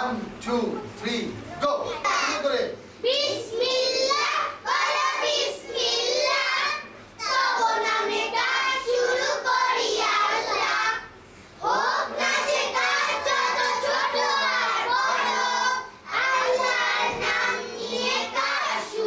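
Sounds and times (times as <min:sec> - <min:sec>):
children singing together: 0:02.1 - 0:19.0.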